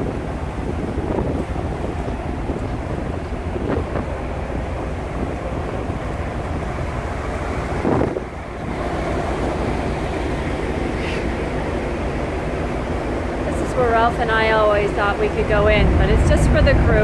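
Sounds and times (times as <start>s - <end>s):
sea rushing alongside ship: 0.0s - 17.0s
wind buffeting microphone: 0.0s - 17.0s.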